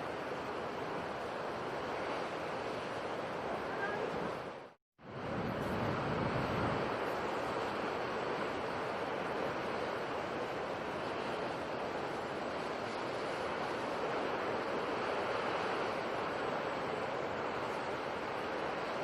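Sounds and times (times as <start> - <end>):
sea waves washing: 0.0 - 19.0.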